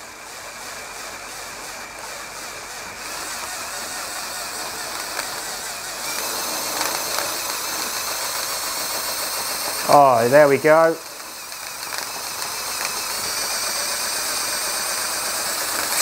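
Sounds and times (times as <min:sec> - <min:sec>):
cordless drill whirring: 0:00.0 - 0:16.0.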